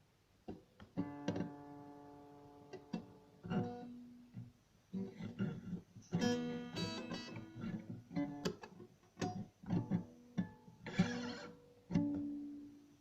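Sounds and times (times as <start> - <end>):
acoustic guitar notes and chords: 0.5 - 12.7.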